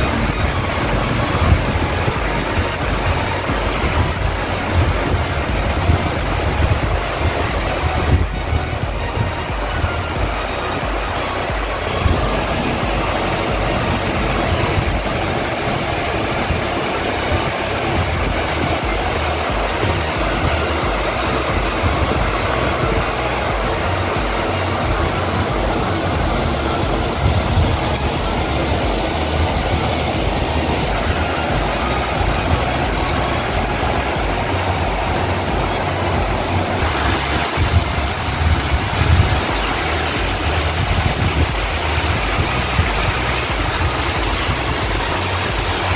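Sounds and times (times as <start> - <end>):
low fluttering rumble: 0.0 - 45.9
water rushing over a weir: 0.0 - 45.9.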